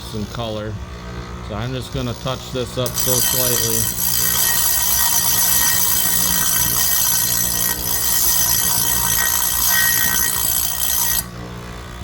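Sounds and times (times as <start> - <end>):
grinding wheel whine and hiss: 0.0 - 12.0.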